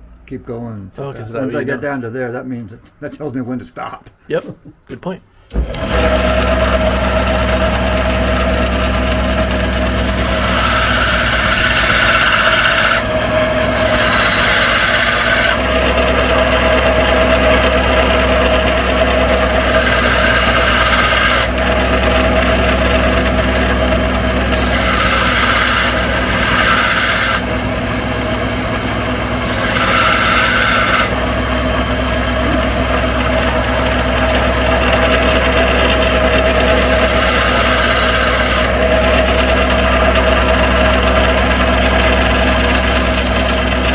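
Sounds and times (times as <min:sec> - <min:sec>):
lathe tool cutting hiss: 0:05.5 - 0:43.9
metal lathe motor hum: 0:05.5 - 0:43.9.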